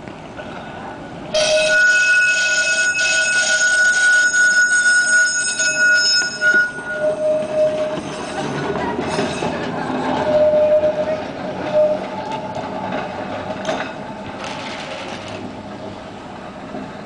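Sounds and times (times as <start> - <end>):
tram wheels squealing on rails: 1.4 - 17.0.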